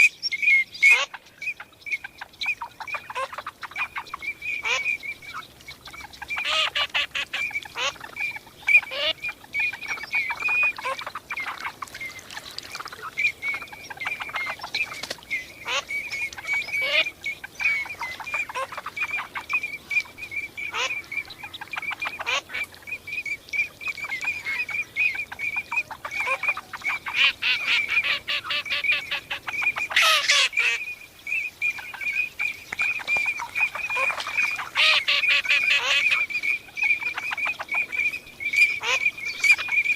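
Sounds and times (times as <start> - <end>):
ducks whistling calls: 0.0 - 39.9.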